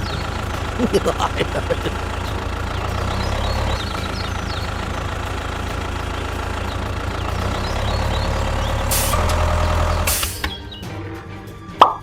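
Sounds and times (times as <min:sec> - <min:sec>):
tractor engine idling: 0:00.0 - 0:10.7.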